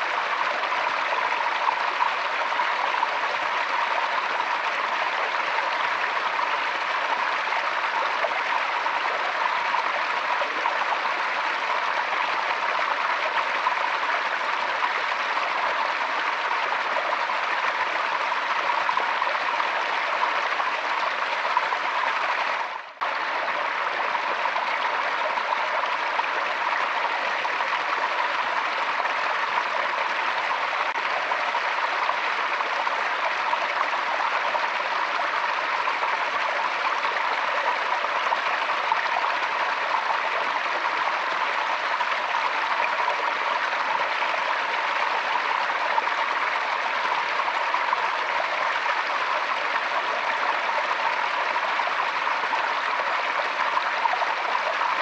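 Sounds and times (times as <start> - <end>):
stream water running and splashing: 0.0 - 55.0.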